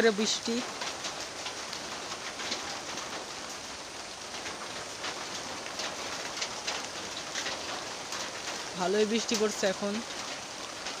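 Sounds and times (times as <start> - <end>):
heavy rain falling: 0.0 - 11.0
raindrops striking close by: 0.0 - 11.0.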